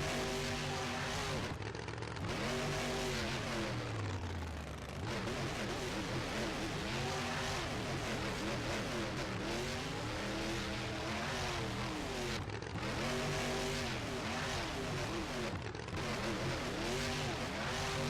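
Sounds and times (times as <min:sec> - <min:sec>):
constant noisy rush: 0:00.0 - 0:18.0
motor engines revving: 0:00.0 - 0:18.0.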